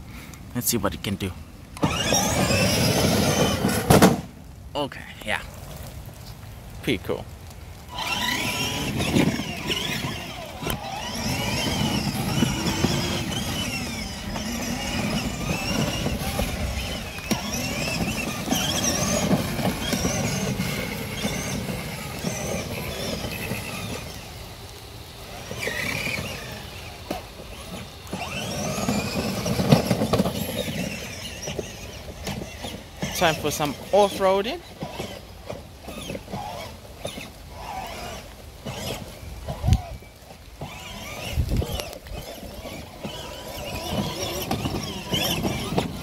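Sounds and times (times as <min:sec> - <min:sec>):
plastic wheels rumbling on ground: 0:00.1 - 0:46.0
electric motor whining: 0:01.7 - 0:04.2, 0:07.7 - 0:46.0.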